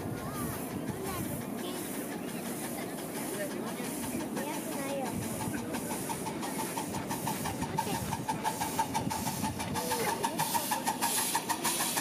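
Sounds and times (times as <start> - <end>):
miniature steam locomotive running: 0.0 - 12.0.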